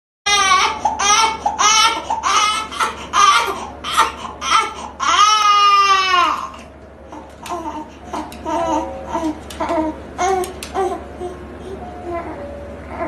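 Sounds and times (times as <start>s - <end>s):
newborn baby crying: 0.3s - 13.0s.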